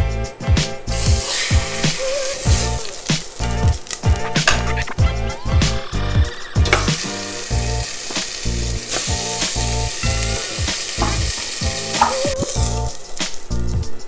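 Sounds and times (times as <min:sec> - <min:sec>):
background music with a beat: 0:00.0 - 0:14.0
meat sizzling in hot oil: 0:00.9 - 0:04.8, 0:05.4 - 0:14.0.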